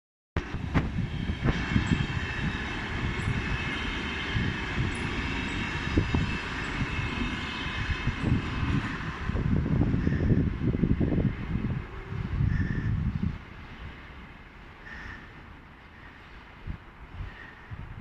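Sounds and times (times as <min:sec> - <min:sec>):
freight wagons rumbling over rails: 0:00.4 - 0:17.9.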